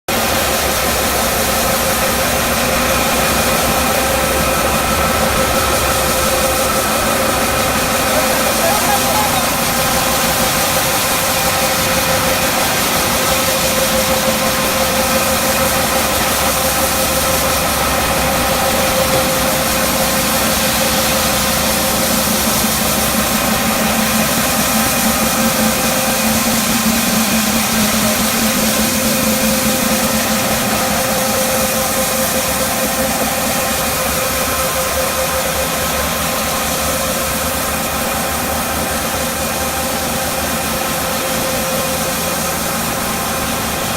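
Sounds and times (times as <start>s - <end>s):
washing machine humming: 0.1s - 43.9s.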